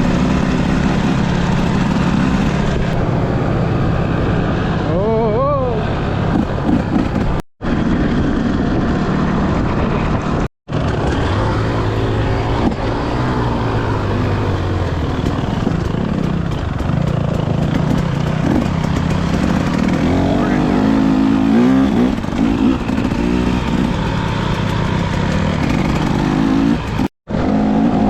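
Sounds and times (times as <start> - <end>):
motorcycle engine under load: 0.0 - 5.3, 5.9 - 28.0
wind and ground noise: 0.0 - 28.0.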